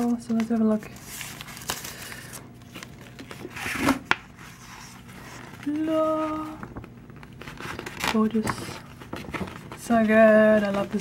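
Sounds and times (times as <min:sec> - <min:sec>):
stiff paper rustling: 0:00.0 - 0:11.0.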